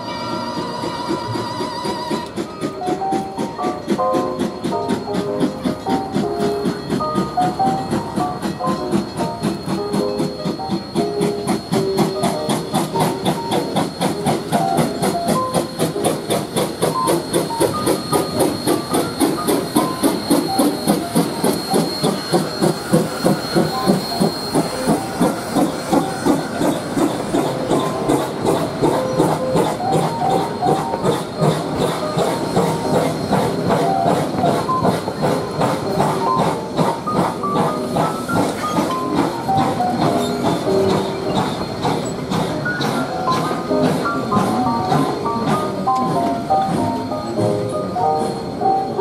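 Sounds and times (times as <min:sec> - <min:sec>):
railcar wheels rolling: 0:00.0 - 0:49.0
steam locomotive chugging: 0:00.0 - 0:49.0
hiss of steam: 0:00.6 - 0:49.0.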